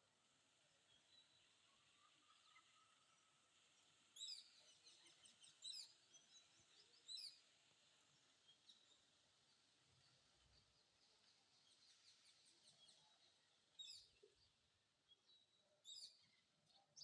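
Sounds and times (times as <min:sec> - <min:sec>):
faint bird chirps: 0:00.8 - 0:07.6, 0:08.3 - 0:17.0.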